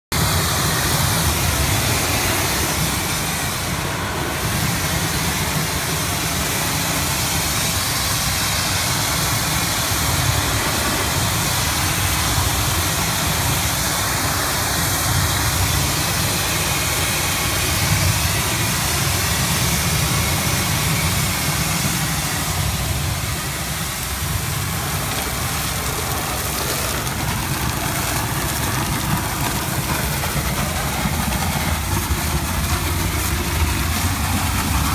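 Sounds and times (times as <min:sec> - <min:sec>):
heavy engine drone: 0:00.1 - 0:34.9
even hiss: 0:00.2 - 0:34.9.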